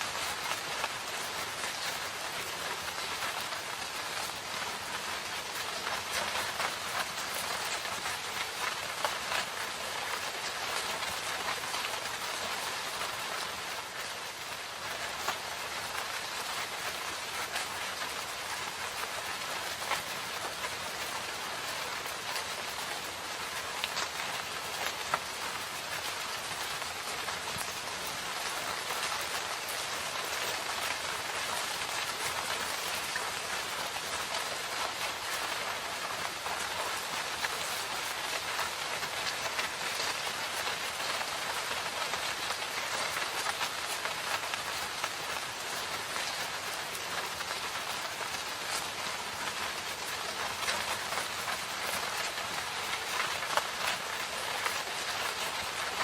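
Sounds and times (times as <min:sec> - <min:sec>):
rain hissing in forest: 0:00.0 - 0:56.0.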